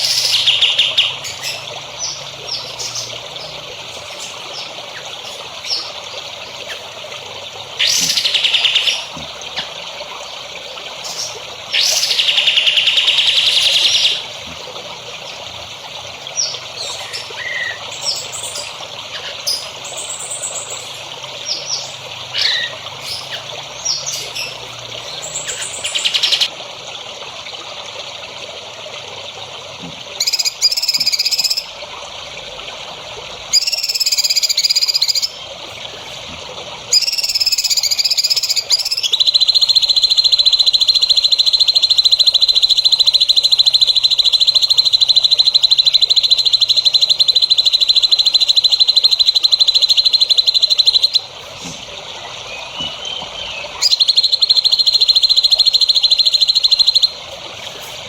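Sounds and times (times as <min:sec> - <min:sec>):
songbirds chirping and trilling: 0:00.0 - 0:26.5, 0:32.6 - 0:58.0
water trickling: 0:00.0 - 0:58.0.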